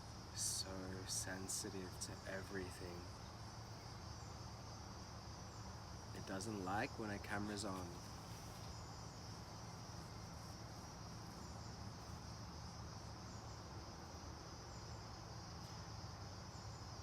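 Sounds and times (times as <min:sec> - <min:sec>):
low background hum: 0:00.0 - 0:16.9
high-pitched insect chorus: 0:00.0 - 0:17.0.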